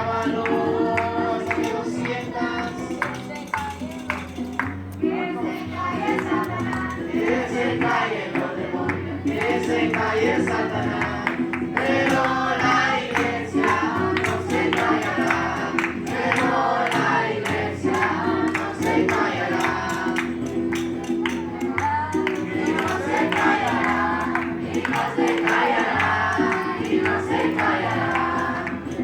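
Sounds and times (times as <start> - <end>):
group of voices singing: 0.0 - 29.0
music with steady beat and bass: 0.0 - 29.0.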